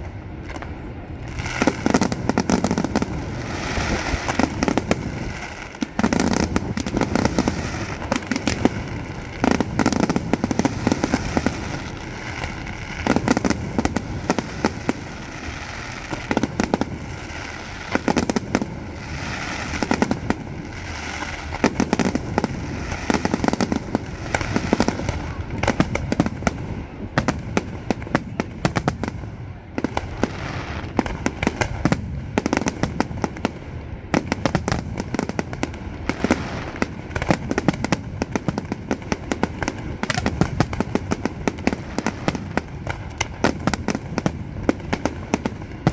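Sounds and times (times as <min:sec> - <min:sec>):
fireworks bangs: 0:00.0 - 0:45.9
fireworks crackling: 0:00.0 - 0:45.9.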